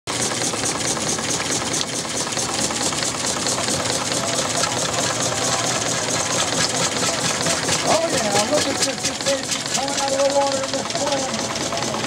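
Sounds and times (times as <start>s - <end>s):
small steam engine running: 0.1s - 12.0s.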